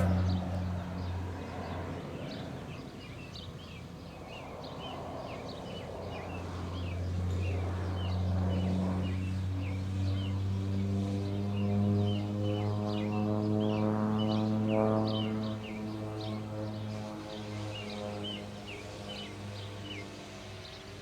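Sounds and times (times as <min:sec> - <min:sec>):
airplane engine droning: 0:00.0 - 0:21.0.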